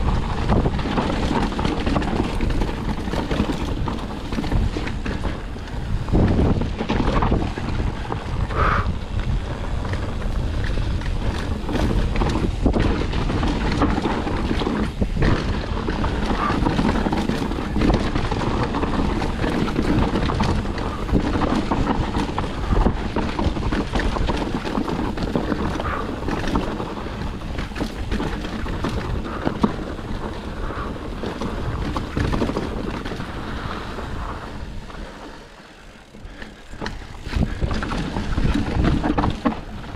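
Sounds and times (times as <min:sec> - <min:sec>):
bike knocking and rattling: 0:00.0 - 0:39.9
rumble of bike tyres on dirt: 0:00.0 - 0:39.9
wind buffeting microphone: 0:00.0 - 0:39.9.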